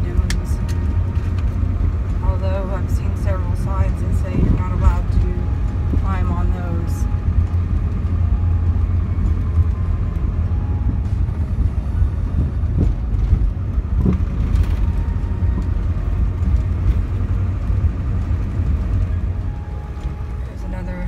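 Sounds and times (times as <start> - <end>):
road and engine noise in car cabin: 0.0 - 21.0.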